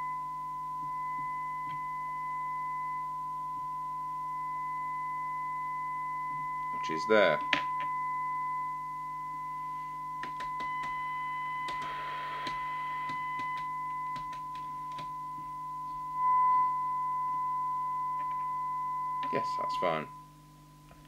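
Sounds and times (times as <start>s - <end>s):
test tone from loudspeaker: 0.0s - 21.0s.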